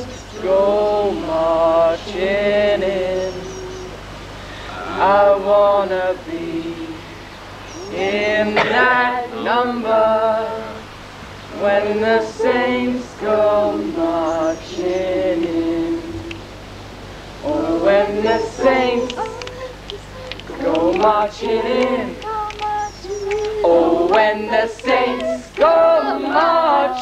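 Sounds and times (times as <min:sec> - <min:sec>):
voices chanting and singing: 0:00.0 - 0:16.5, 0:17.4 - 0:27.0
steady low hum: 0:00.0 - 0:27.0.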